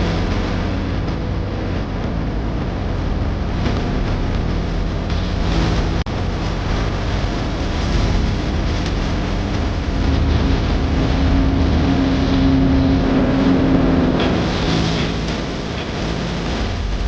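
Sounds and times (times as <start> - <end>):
boat engine running: 0.0 - 17.0
rushing water: 0.0 - 17.0
wind noise: 0.0 - 17.0.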